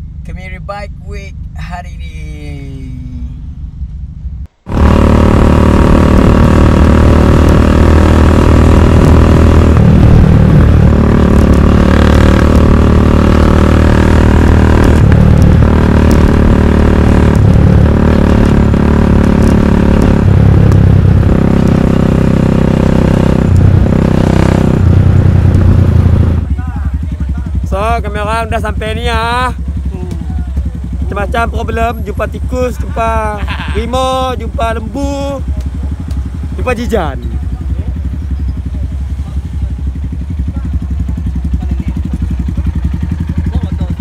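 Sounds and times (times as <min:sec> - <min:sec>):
motorcycle engine revving: 0:02.7 - 0:44.0.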